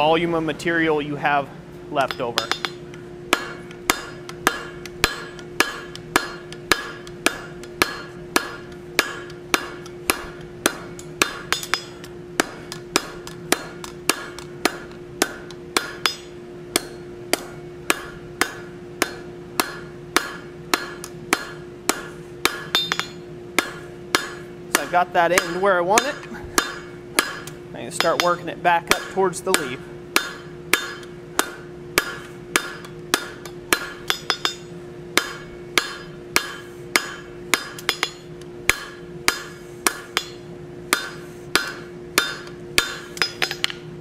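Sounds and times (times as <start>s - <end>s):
faint steady hum: 0.0s - 44.0s
hammer striking steel on anvil: 2.0s - 43.9s.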